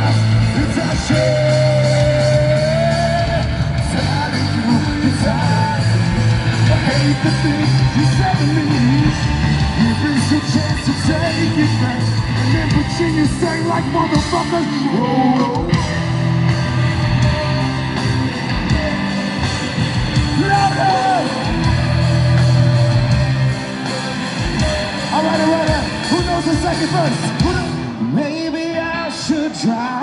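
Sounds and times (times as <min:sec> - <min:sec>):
bass guitar: 0:00.0 - 0:30.0
drums: 0:00.0 - 0:30.0
electric guitars: 0:00.0 - 0:30.0.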